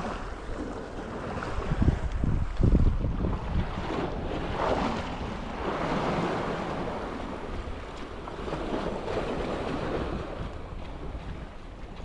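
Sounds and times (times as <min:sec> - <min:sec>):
small waves lapping: 0:00.0 - 0:12.0
wind rumbling on microphone: 0:00.0 - 0:12.0.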